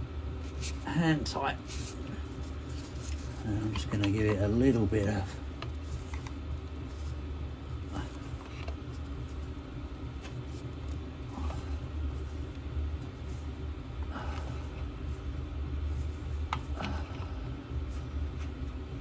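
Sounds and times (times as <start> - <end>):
diesel heater rumbling: 0.0 - 19.0.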